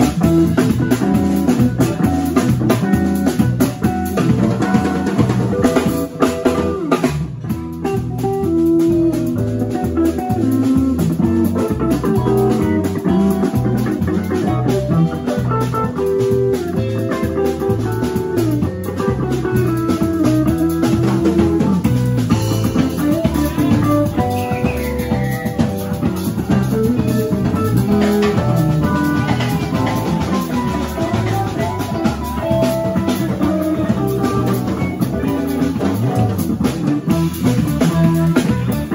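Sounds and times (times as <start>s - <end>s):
drum kit: 0.0s - 38.9s
electric bass: 0.0s - 38.9s
electric guitar: 0.0s - 38.9s
electric keyboard: 0.0s - 38.9s.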